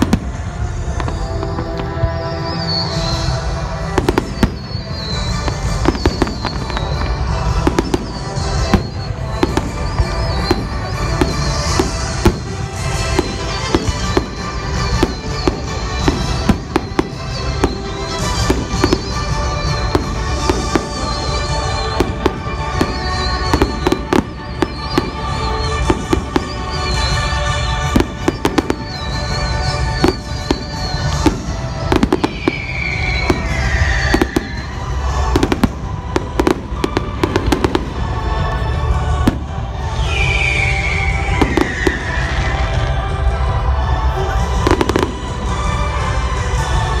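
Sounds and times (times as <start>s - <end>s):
fireworks bursting: 0.0s - 47.0s
music playing: 0.0s - 47.0s.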